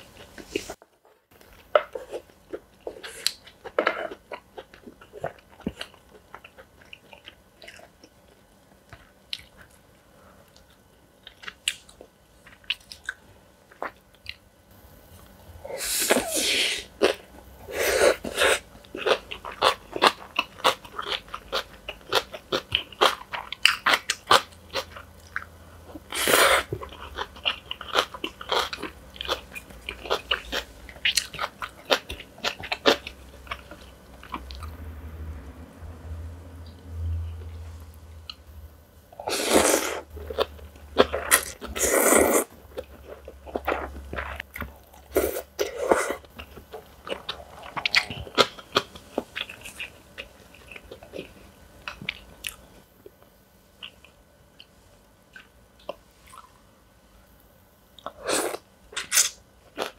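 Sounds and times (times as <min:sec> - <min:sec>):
chewing and crunching food: 0:00.0 - 0:14.5, 0:17.0 - 0:34.8, 0:39.2 - 0:56.6.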